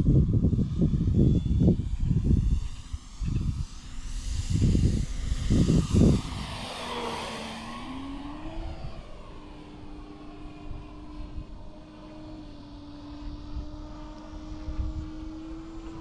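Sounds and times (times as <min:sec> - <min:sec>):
model plane propeller: 0:00.0 - 0:16.0.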